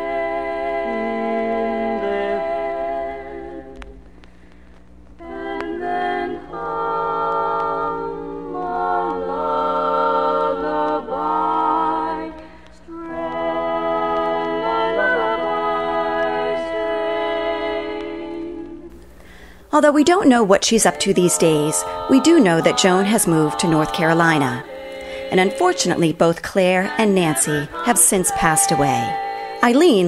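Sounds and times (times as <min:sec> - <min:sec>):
women singing in harmony: 0:00.0 - 0:03.9, 0:05.2 - 0:30.0.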